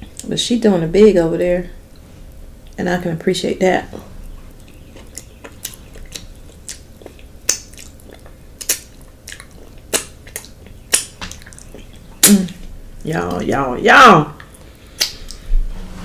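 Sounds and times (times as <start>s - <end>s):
person chewing with wet smacks: 1.9s - 3.1s, 3.8s - 15.5s.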